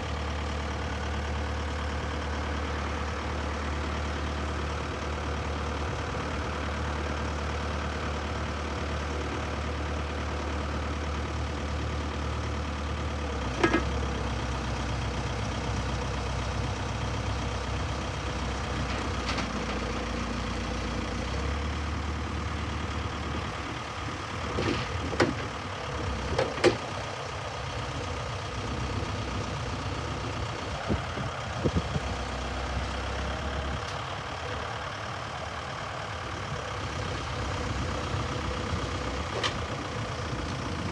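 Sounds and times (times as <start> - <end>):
backhoe diesel engine idling: 0.0 - 40.9.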